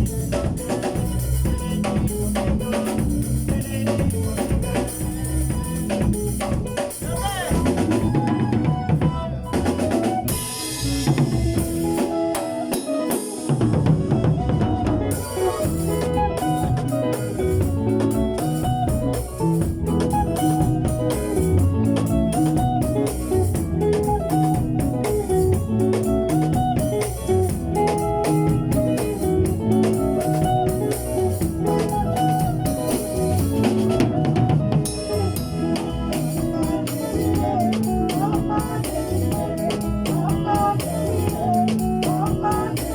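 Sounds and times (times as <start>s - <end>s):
band backing track: 0.0s - 42.9s
drum kit playing beat: 0.0s - 42.9s.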